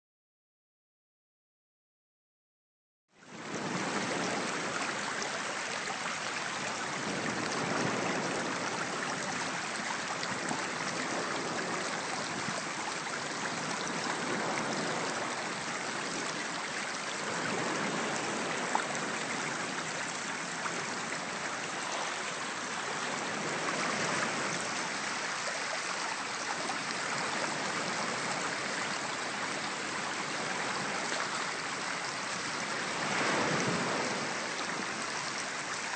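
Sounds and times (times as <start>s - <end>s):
stream running over pebbles: 3.3s - 35.9s.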